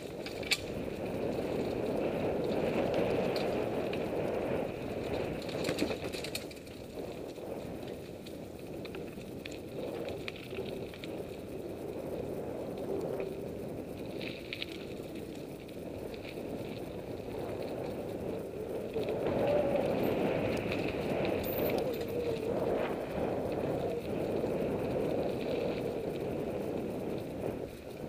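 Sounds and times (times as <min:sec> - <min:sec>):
bike rattling over logs: 0:00.0 - 0:28.0
bike tyres rumbling on dirt: 0:00.0 - 0:28.0.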